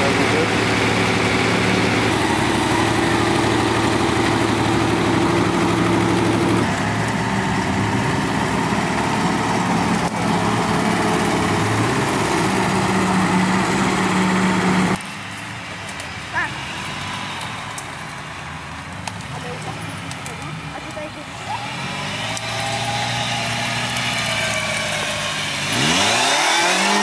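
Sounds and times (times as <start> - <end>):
off-road vehicle engines idling: 0.0 - 27.0.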